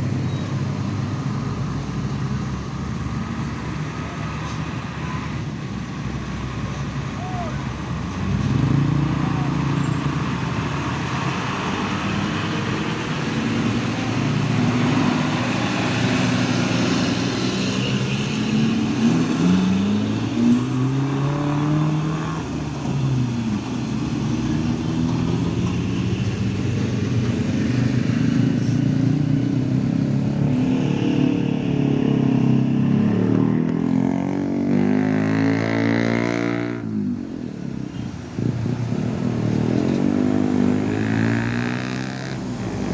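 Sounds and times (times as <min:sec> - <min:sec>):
truck diesel engines labouring: 0:00.0 - 0:42.9.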